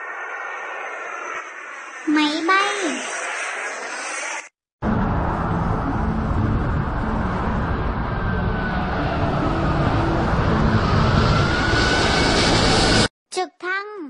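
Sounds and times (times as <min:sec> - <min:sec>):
faint high engine whine: 0:00.0 - 0:13.1
jet engines rumbling: 0:00.0 - 0:13.1.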